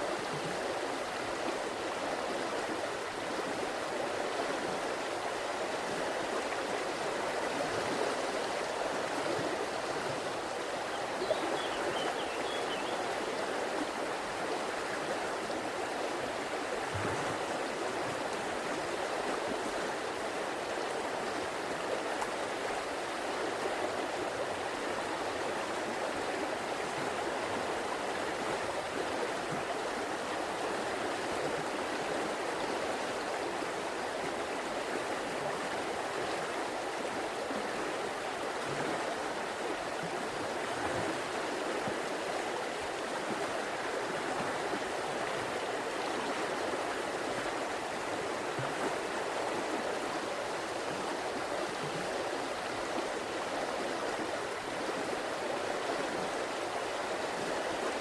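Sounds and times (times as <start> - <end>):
river water babbling over stones: 0.0 - 58.0.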